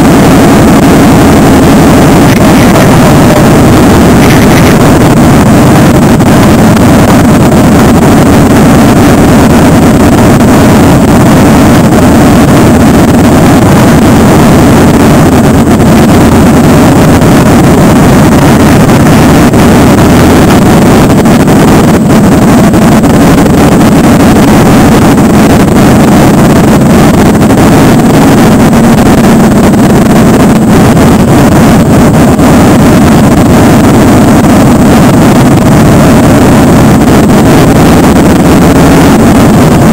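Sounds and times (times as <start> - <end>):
motorcycle engine running: 0.0 - 39.9
other motorcycles: 0.0 - 39.9
wind on microphone: 0.0 - 39.9.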